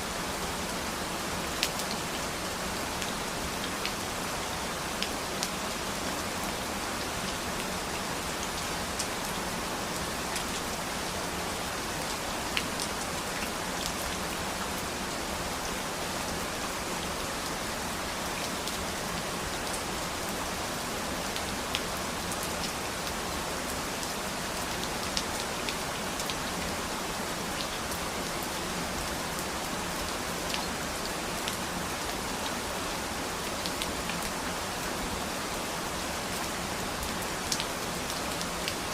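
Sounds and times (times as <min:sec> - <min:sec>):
rain falling on a surface: 0:00.0 - 0:38.9.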